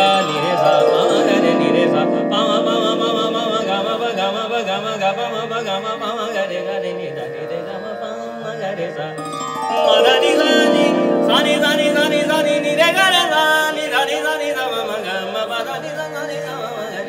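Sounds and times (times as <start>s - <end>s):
man singing vocal runs: 0.0s - 17.0s.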